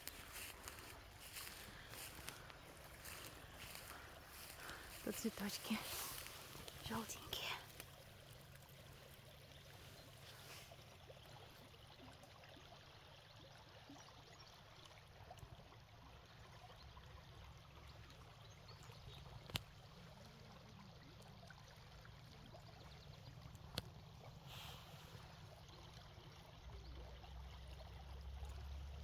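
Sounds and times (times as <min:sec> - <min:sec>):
river water running: 0:00.0 - 0:29.0.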